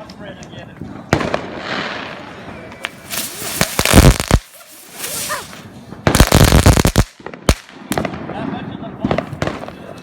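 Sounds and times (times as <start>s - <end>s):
fireworks bangs and crackling: 0.8s - 10.0s.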